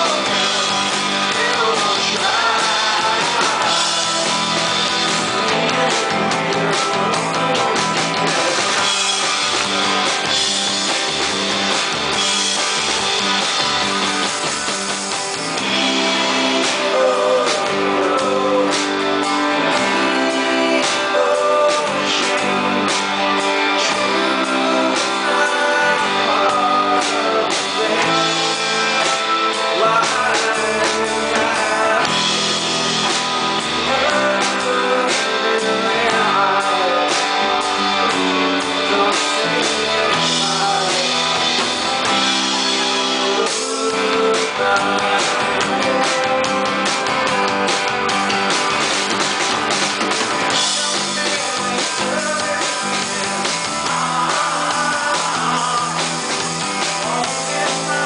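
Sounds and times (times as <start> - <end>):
man singing: 0.0 - 11.0, 15.3 - 48.4, 50.0 - 58.0
electric guitar: 0.0 - 58.0.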